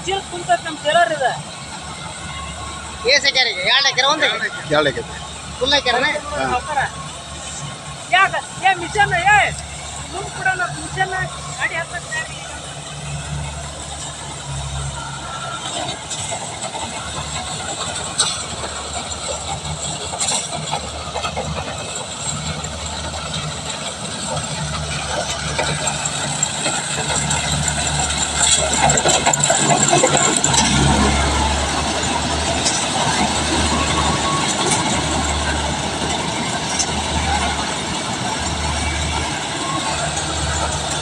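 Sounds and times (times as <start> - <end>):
combine harvester engine drone: 0.0 - 41.0.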